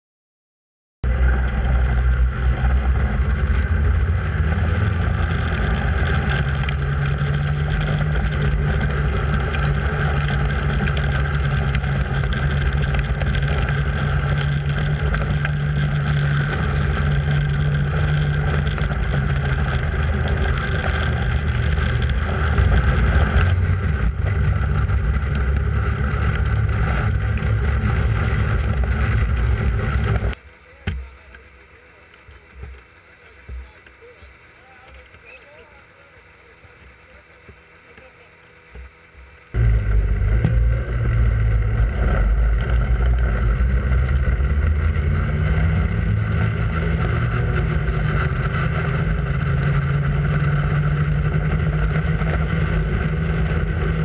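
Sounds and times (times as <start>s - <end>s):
wind rumbling on microphone: 1.0s - 31.5s, 38.7s - 54.0s
snowmobile engine running: 1.0s - 54.0s.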